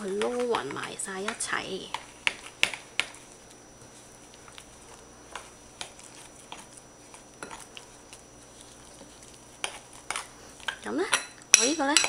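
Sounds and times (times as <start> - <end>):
spoon mixing wet paste: 0.0 - 12.0.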